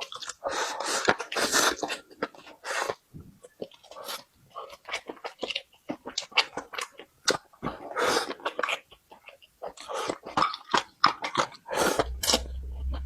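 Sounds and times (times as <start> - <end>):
noisy smacks or slurps: 0.0 - 13.0
person chewing crunchy food: 0.0 - 13.0.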